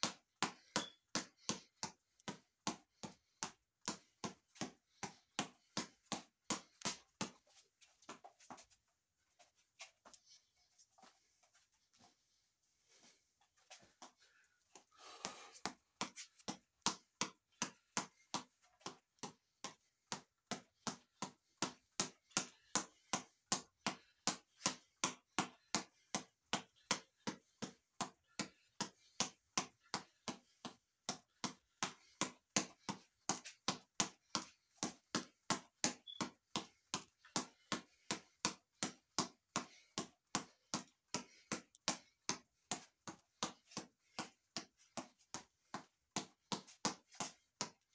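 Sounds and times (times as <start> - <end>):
fists smacking reflex ball: 0.0 - 8.3, 14.7 - 47.9.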